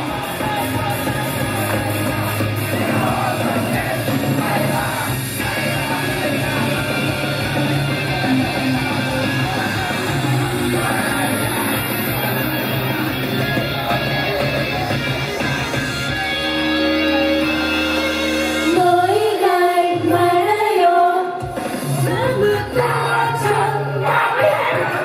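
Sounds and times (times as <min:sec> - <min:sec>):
person singing: 0:00.0 - 0:15.4, 0:16.9 - 0:25.0
electric guitar: 0:00.0 - 0:25.0
rock pop song over sound system: 0:00.0 - 0:25.0.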